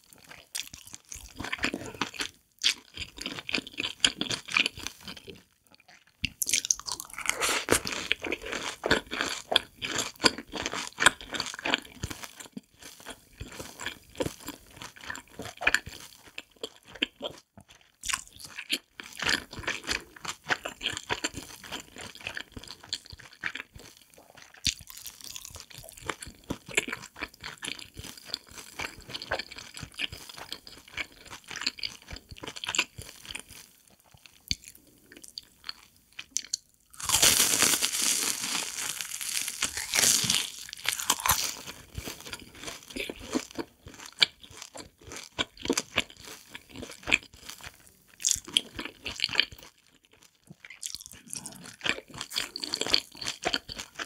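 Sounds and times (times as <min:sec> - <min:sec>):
chewing crunchy snacks: 0:00.0 - 0:54.0.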